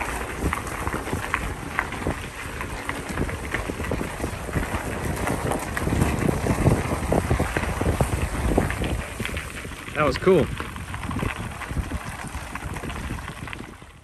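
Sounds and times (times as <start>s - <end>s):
bicycle tyres on gravel: 0.0s - 14.0s
wind buffeting microphone: 0.0s - 14.0s.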